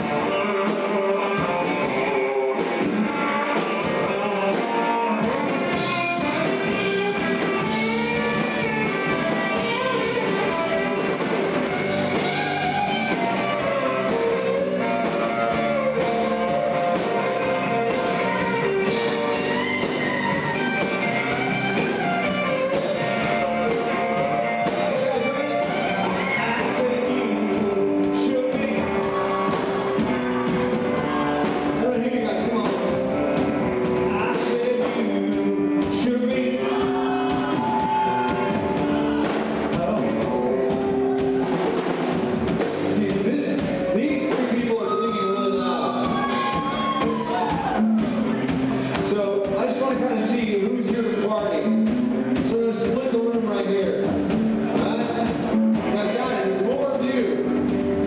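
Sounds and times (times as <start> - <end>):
person singing: 0.0 - 41.8, 42.8 - 58.0
guitar: 0.0 - 58.0
rock band playing: 0.0 - 58.0.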